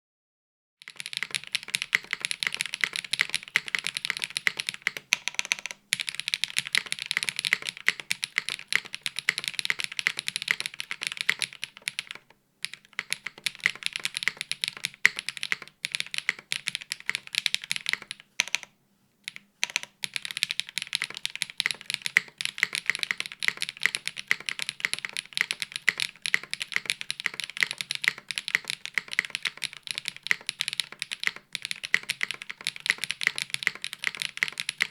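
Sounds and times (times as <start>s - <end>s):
fast typing on mechanical keyboard: 0.9s - 18.7s, 19.3s - 34.9s.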